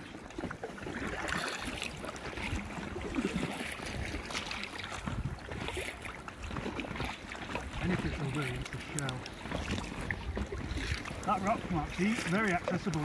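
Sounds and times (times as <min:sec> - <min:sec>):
choppy water: 0:00.0 - 0:13.0
paddle splashing water: 0:00.0 - 0:13.0
wind: 0:00.0 - 0:13.0.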